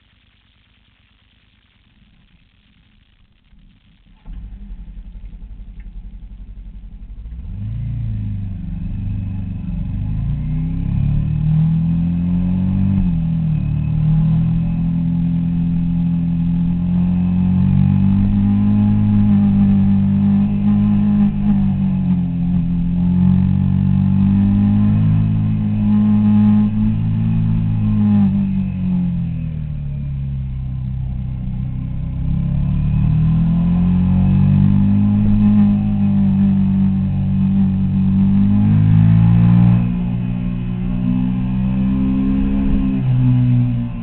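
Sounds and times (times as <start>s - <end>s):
motorcycle engine accelerating: 3.3s - 44.0s.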